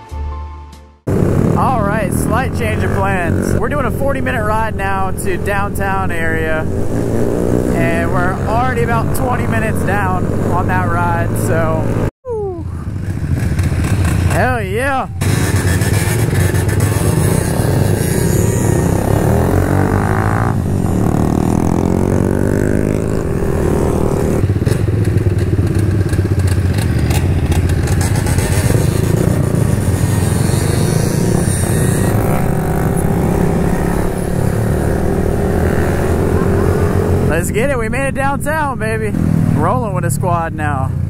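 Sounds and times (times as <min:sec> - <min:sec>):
motorcycle engine accelerating: 0:01.0 - 0:41.0
other small motorbike engines: 0:01.1 - 0:39.8.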